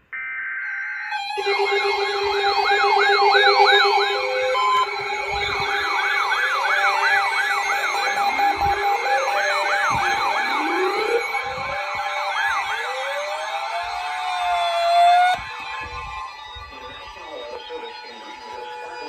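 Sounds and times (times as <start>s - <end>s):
electronic sirens sweeping: 0.0s - 19.0s
steady electronic tones: 0.0s - 19.0s.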